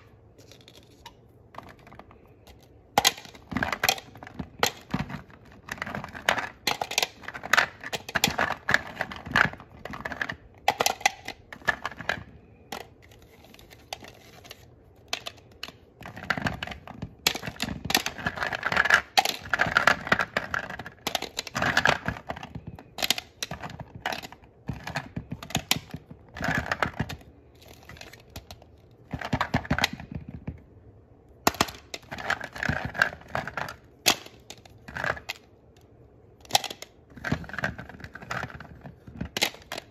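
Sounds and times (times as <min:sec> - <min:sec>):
plastic toy fruits clattering: 0:00.0 - 0:30.7, 0:31.4 - 0:39.9.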